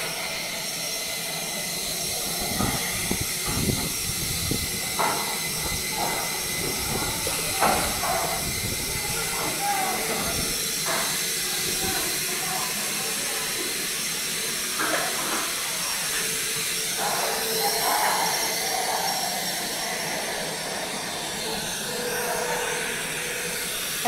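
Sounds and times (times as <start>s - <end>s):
machines hissing and humming: 0.0s - 24.0s.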